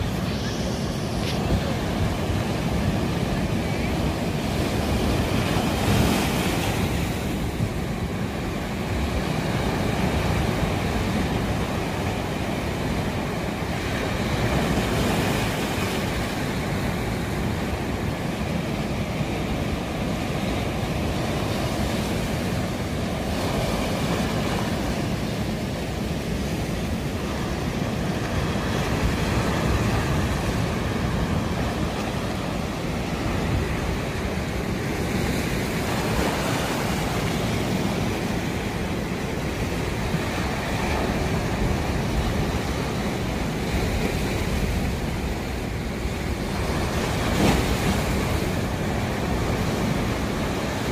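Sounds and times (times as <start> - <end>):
sea surf breaking on rocks: 0.0 - 50.9.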